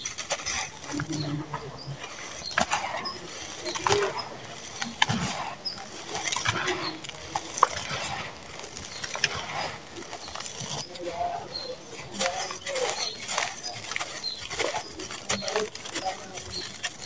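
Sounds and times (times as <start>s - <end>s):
sand clumps crunching by hand: 0.0s - 17.0s
sandy grit trickling: 0.0s - 17.0s.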